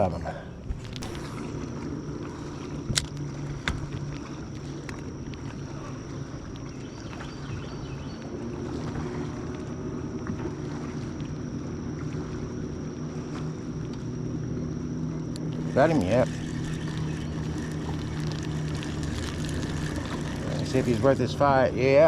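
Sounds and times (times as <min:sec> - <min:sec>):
steady low hum: 0:00.0 - 0:22.0
water sloshing against hull: 0:00.6 - 0:22.0.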